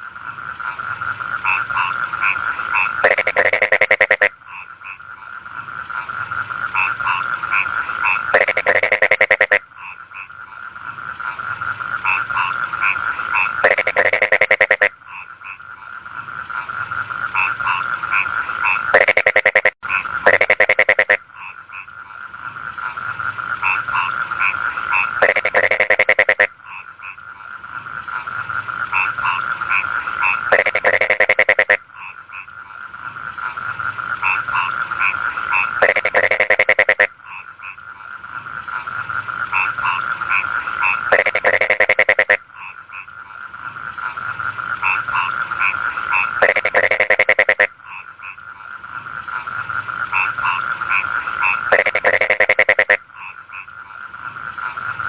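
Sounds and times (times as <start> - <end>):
burst of rapid frog croaks: 0.0 - 55.0
frogs croaking in chorus: 0.0 - 55.0.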